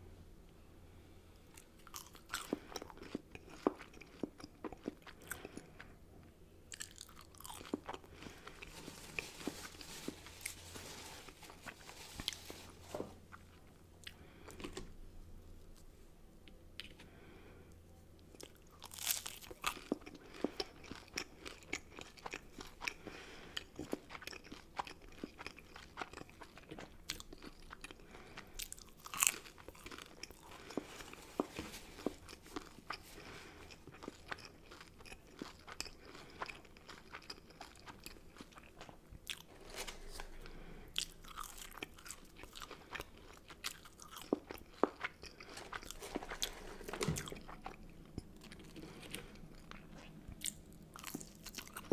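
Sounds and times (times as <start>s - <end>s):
person chewing food: 1.5s - 15.0s, 18.3s - 51.9s.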